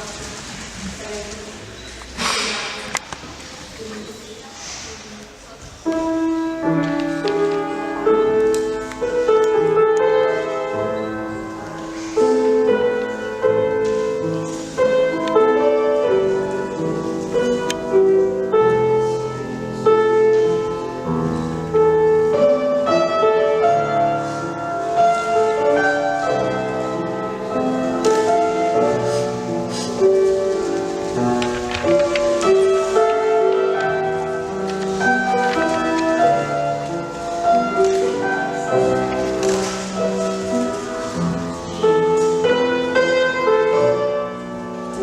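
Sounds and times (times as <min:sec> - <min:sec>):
solo piano piece: 0:00.0 - 0:45.0.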